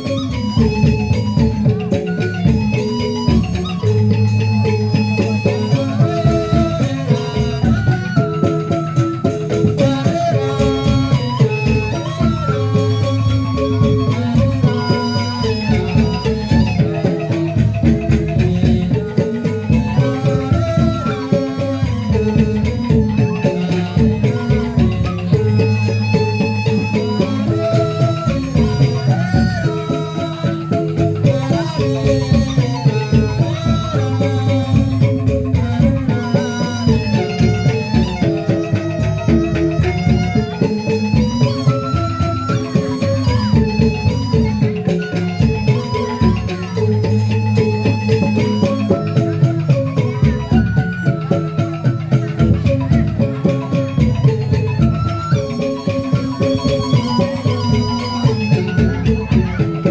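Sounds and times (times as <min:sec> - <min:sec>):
busy percussion: 0:00.0 - 0:59.9.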